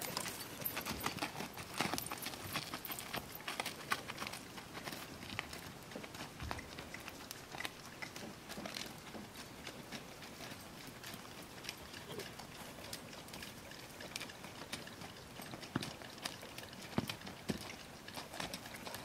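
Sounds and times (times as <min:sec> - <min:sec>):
horse hoofbeats on sand: 0:00.0 - 0:19.0.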